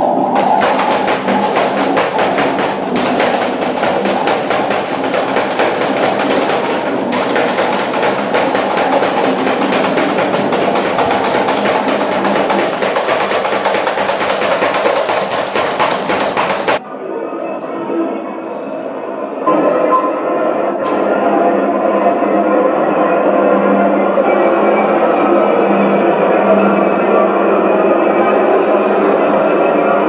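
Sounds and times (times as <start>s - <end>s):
harsh electronic noise music: 0.0s - 16.8s, 19.4s - 30.0s.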